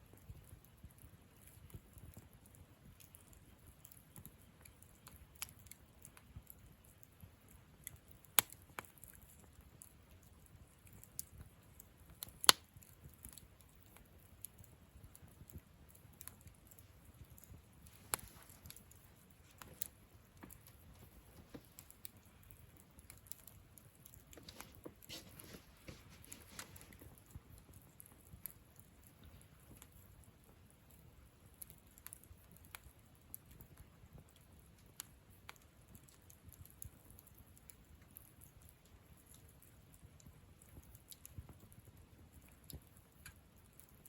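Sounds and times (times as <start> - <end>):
campfire crackling and popping: 0.1 - 44.0
low rumble of flames: 0.1 - 44.0.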